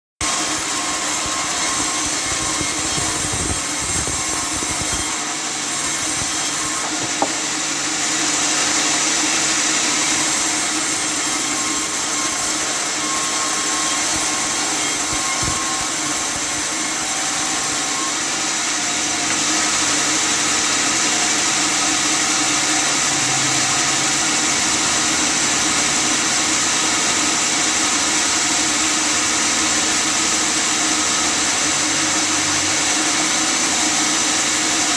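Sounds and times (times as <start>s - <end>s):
sawmill sawing wood: 0.2s - 34.9s.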